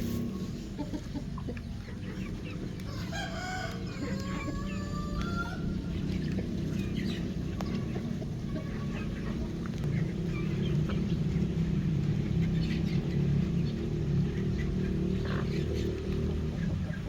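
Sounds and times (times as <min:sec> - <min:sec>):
steady low rumble: 0:00.0 - 0:14.8
chickens clucking: 0:00.0 - 0:17.0.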